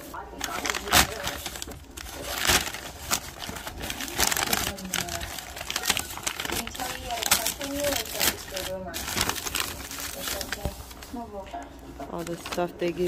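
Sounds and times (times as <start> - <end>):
paper bag crinkling: 0.0 - 13.0.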